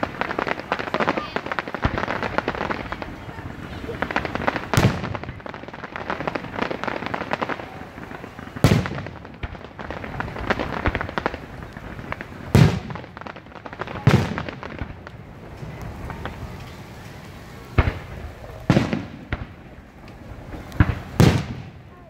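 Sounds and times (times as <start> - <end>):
firework shells booming: 0.0 - 22.0
rapid firework crackling: 0.0 - 22.0.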